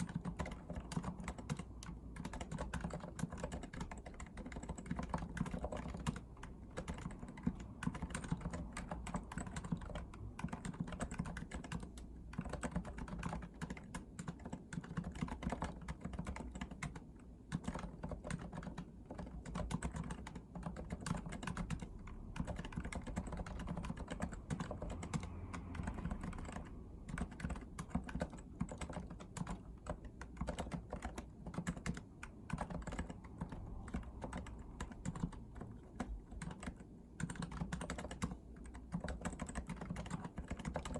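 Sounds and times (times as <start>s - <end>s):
fast keyboard typing: 0.0s - 40.9s.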